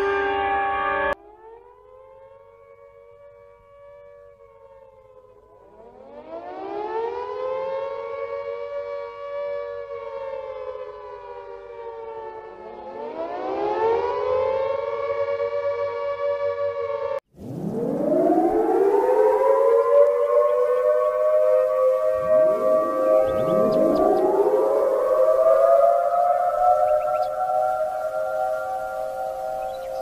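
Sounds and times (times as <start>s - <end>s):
faint siren wailing: 0.0s - 30.0s
loud siren winding up: 5.7s - 30.0s.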